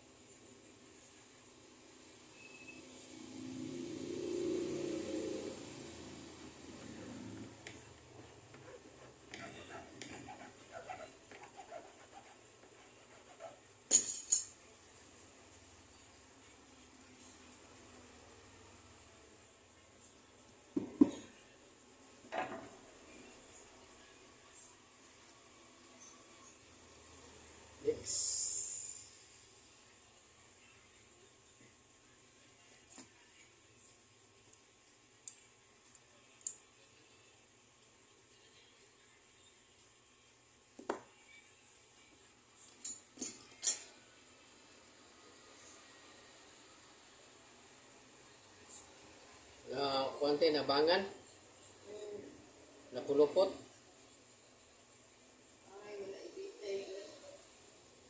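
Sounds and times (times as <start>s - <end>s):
faint background murmur: 0.0s - 49.9s.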